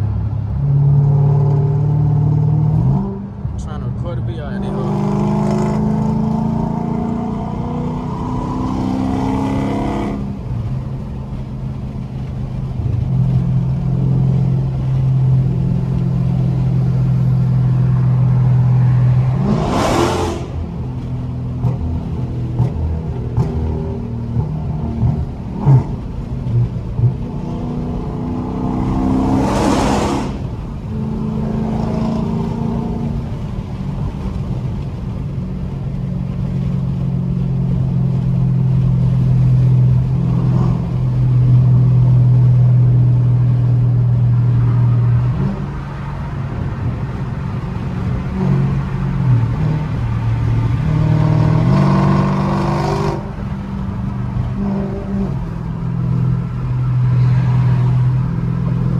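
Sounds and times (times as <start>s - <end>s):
car engine droning: 0.0s - 58.9s.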